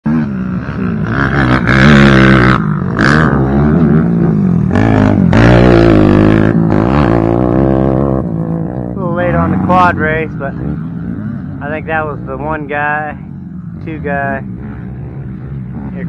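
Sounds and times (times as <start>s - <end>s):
quad engines revving: 0.1s - 16.0s.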